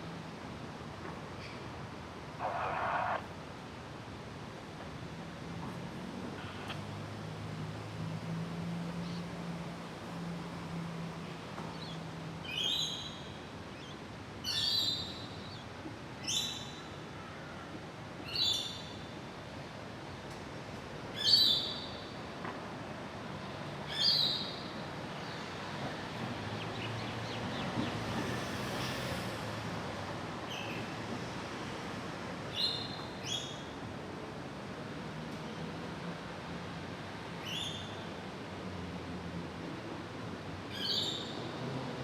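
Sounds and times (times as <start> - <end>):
outdoor background noise: 0.0 - 42.0.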